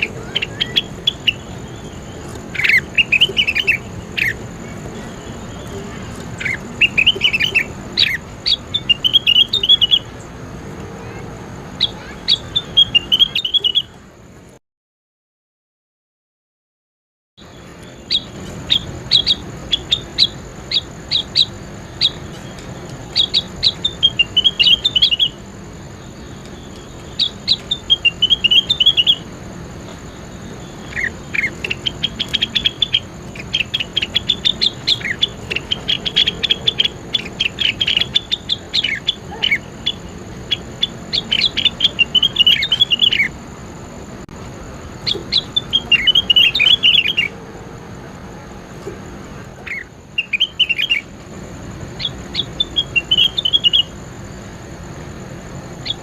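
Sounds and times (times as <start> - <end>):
songbird chirping and trilling: 0.0 - 14.5, 17.4 - 56.0.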